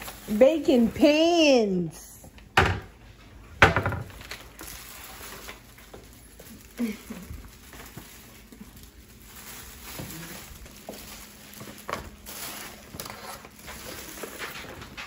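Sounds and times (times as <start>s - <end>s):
foil gift wrapping rustling: 0.0s - 1.8s, 4.0s - 15.0s.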